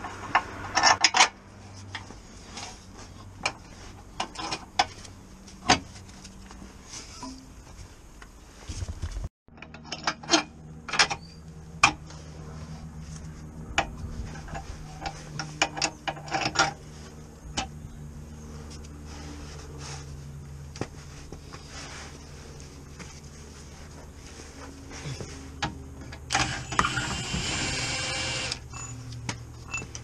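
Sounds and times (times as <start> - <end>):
steady low hum: 1.4 - 30.0.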